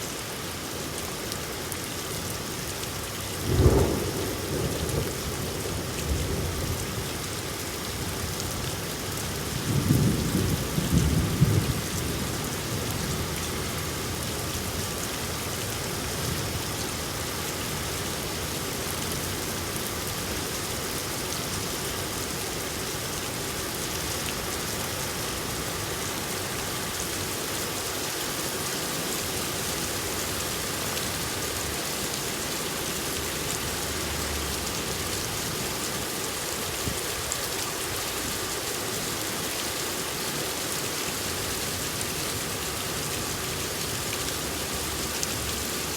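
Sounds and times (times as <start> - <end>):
steady rain pattering: 0.0 - 45.9.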